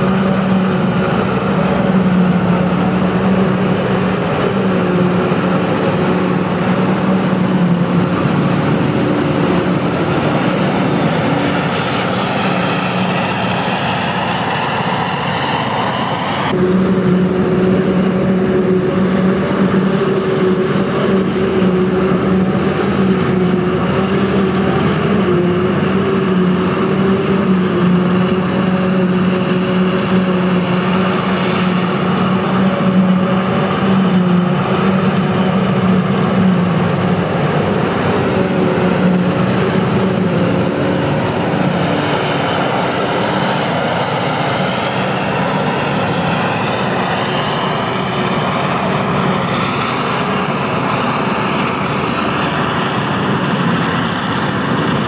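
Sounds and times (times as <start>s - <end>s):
forage harvester mechanical drone: 0.0s - 55.0s
rising machine whine: 0.0s - 55.0s.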